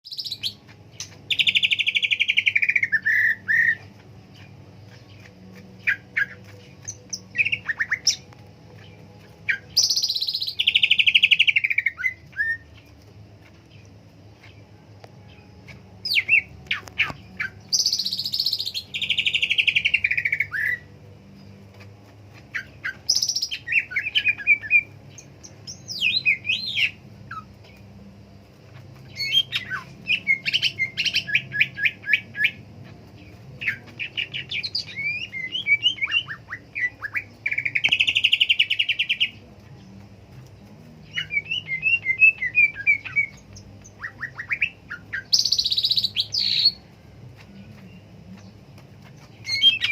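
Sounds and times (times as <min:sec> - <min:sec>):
bird singing whistles and trills: 0:00.0 - 0:13.0, 0:13.8 - 0:27.9, 0:28.7 - 0:49.9.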